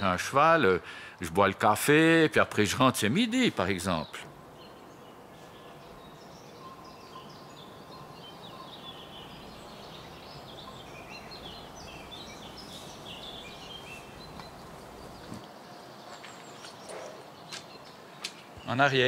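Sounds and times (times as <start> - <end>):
outdoor background noise: 0.0 - 19.0
songbirds chirping and trilling: 0.0 - 19.0.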